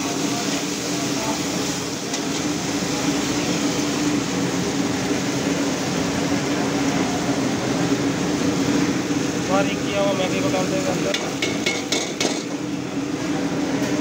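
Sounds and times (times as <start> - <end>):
chillies stir-frying in oil: 0.0 - 13.7
wok stove rushing hum: 0.0 - 14.0.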